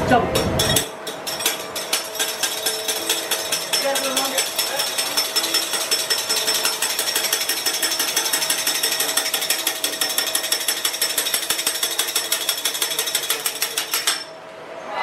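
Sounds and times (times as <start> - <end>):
metal spatulas clattering on griddle: 0.4 - 14.3.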